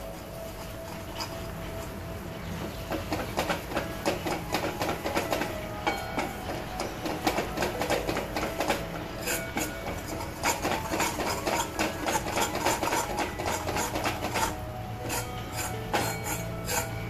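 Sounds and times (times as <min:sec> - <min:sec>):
spoon scraping metal pan: 0:00.0 - 0:02.0, 0:02.8 - 0:17.0.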